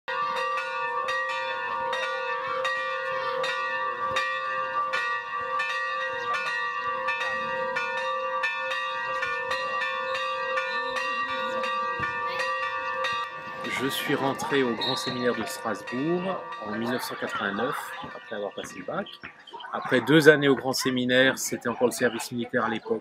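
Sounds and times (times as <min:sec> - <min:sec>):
church bells ringing: 0:00.1 - 0:19.2.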